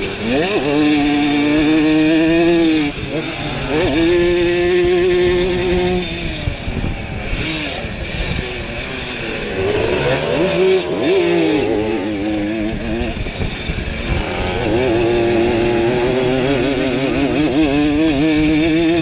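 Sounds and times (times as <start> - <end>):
two-stroke moped engine revving: 0.0 - 19.0.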